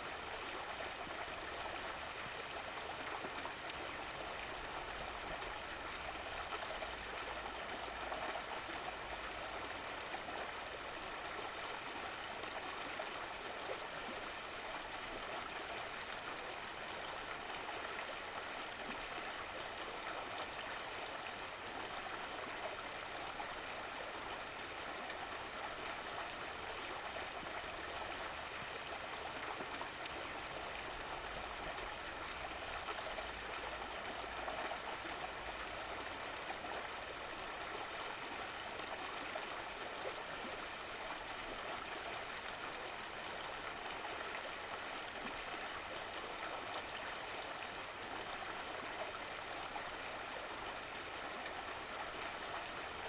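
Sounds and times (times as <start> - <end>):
stream flowing: 0.0 - 53.0.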